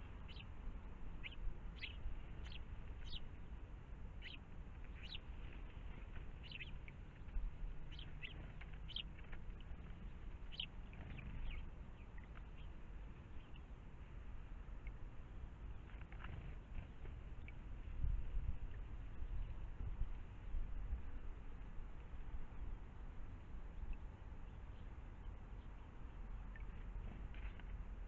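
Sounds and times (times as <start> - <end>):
birds chirping: 0.0 - 20.0, 23.6 - 28.0
low background rumble: 0.0 - 28.0.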